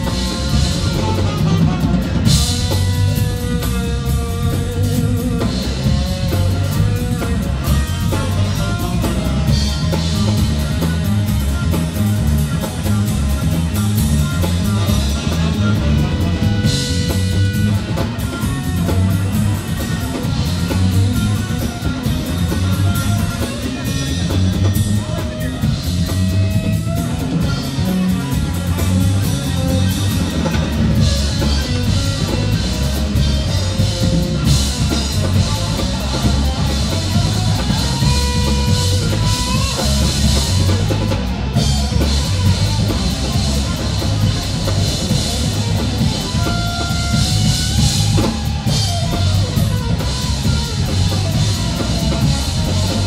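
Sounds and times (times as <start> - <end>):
drum kit groove: 0.0 - 53.0
electric bass: 0.0 - 53.0
electric guitar: 0.0 - 53.0.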